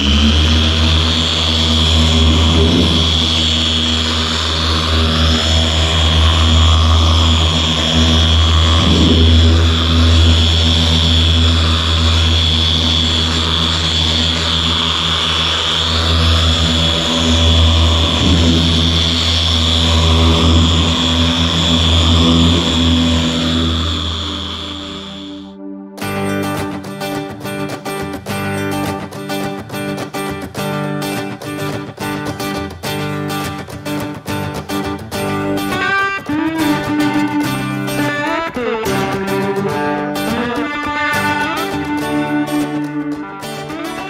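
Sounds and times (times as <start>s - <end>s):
polisher motor whine: 0.0s - 44.0s.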